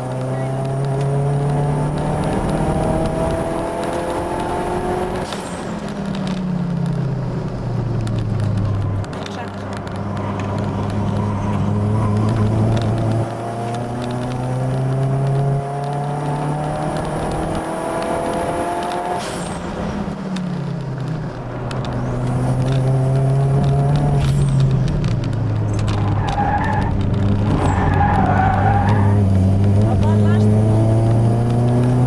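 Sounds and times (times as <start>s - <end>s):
car engine accelerating: 0.0s - 32.0s
low road drone: 0.0s - 32.0s.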